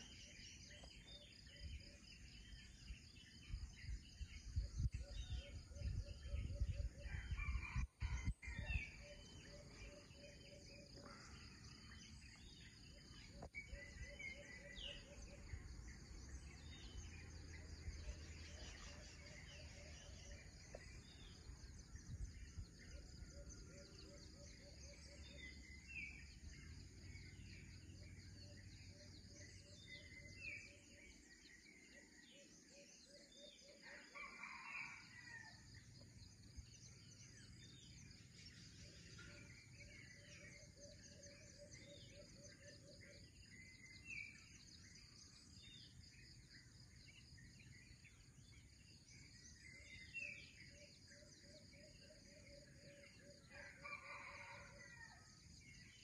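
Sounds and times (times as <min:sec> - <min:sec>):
bird calls and chirps: 0:00.0 - 0:56.0.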